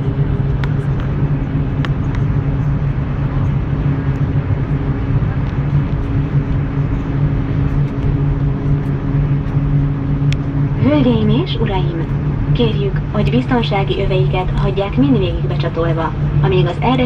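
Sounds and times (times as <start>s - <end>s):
aircraft cabin drone: 0.0s - 17.0s.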